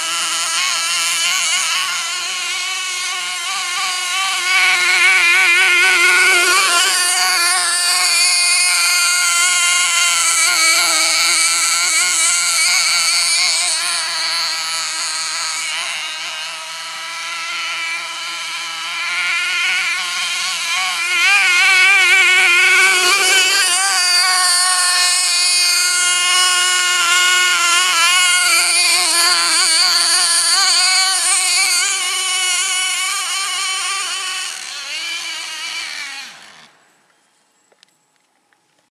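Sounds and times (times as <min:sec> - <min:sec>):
small engine buzzing and revving: 0:00.0 - 0:37.2.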